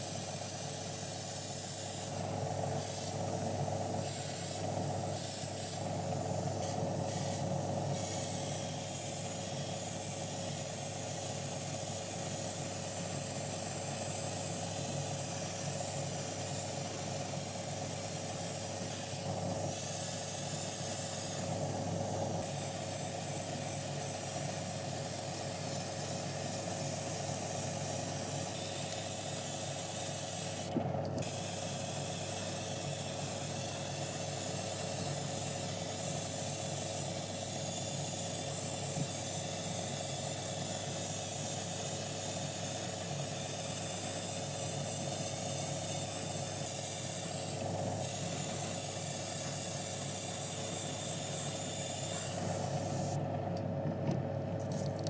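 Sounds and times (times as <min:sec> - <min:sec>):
airbrush hissing: 0:00.0 - 0:53.2.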